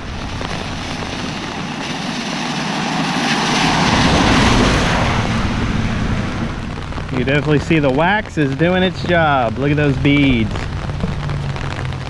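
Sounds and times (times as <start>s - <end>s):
low rumble: 0.0s - 12.0s
tyres hissing on wet road: 0.0s - 12.0s.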